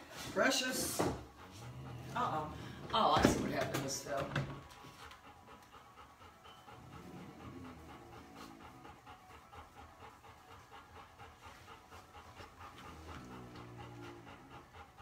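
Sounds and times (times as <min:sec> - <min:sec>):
puppy panting: 0:00.0 - 0:15.0.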